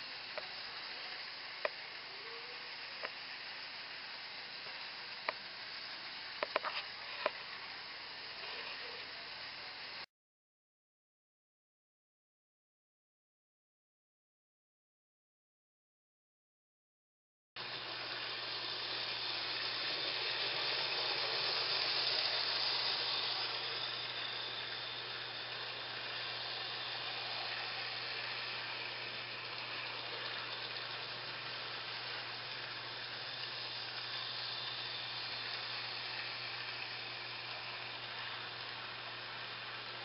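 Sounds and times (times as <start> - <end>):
model train whirring hiss: 0.0 - 10.0, 17.6 - 40.0.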